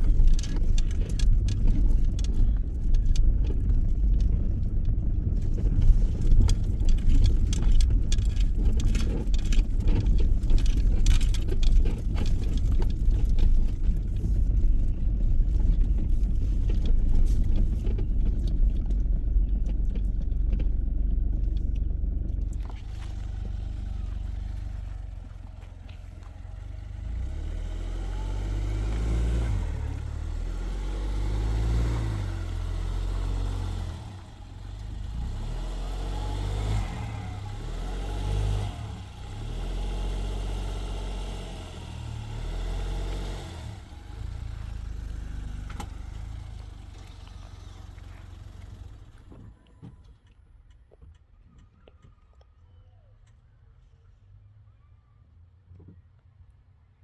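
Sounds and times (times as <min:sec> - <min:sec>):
engine drone: 0:00.0 - 0:49.6
crackling road or wind noise: 0:00.0 - 0:52.1
vehicle rough rumble: 0:00.0 - 0:54.8.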